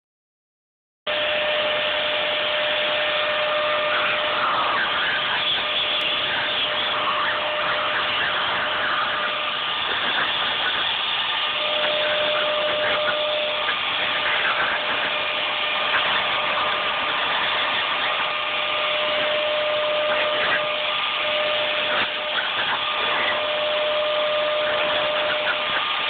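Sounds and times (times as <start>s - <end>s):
hair dryer blowing: 1.1s - 26.0s.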